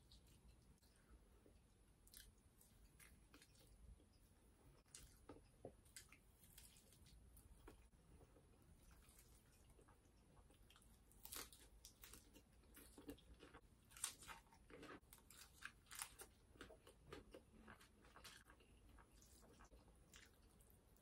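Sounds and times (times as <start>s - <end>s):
chewing crisp food: 0.0s - 21.0s.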